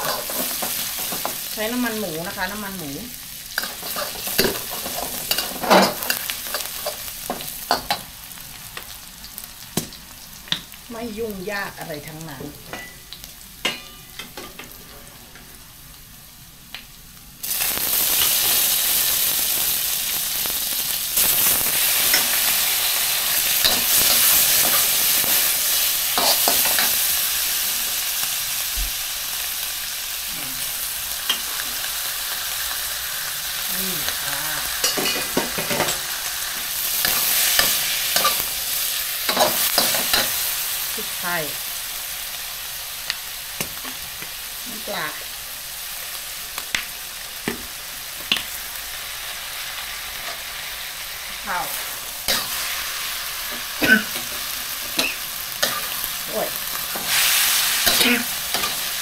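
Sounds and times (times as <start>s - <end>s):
food sizzling in hot fat: 0.0s - 59.0s.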